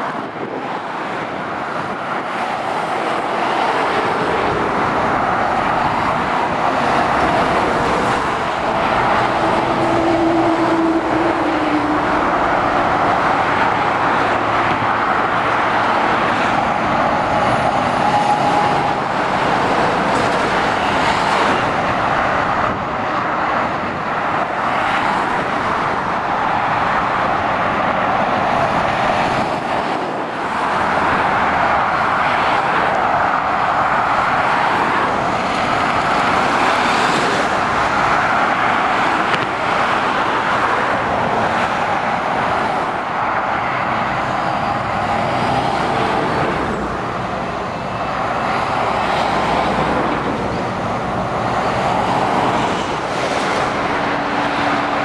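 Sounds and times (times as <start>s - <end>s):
motorway traffic: 0.0s - 55.0s.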